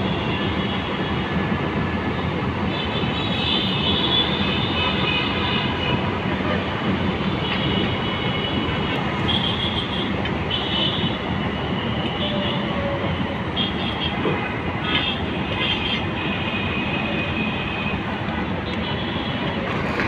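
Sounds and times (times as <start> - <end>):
vehicle rumbling on rails: 0.0 - 20.0.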